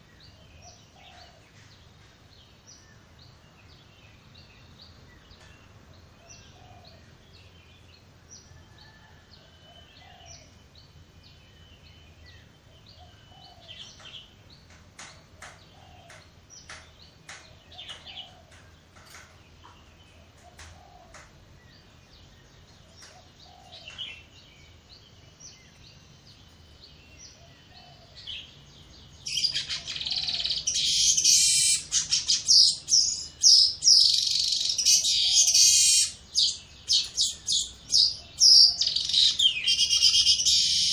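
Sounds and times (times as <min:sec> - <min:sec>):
birds chirping: 0:00.0 - 0:40.9
dense bird chattering chorus: 0:00.0 - 0:40.9.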